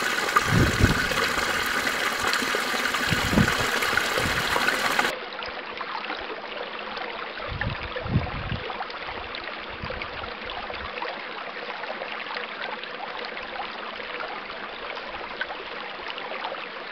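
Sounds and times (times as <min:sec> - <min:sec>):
small stream babbling: 0:00.0 - 0:07.6, 0:08.6 - 0:16.9.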